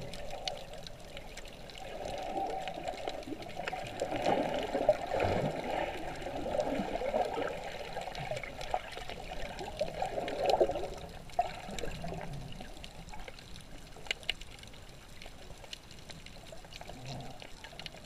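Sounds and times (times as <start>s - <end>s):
faint clicks: 0.0s - 5.1s, 5.7s - 18.0s
muffled underwater water surging: 0.0s - 18.0s.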